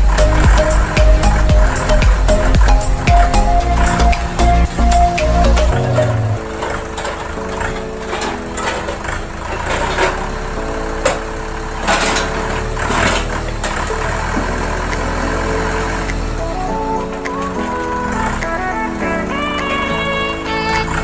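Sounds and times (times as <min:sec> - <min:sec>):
tractor engine running: 0:00.0 - 0:18.6
background music: 0:00.0 - 0:21.0.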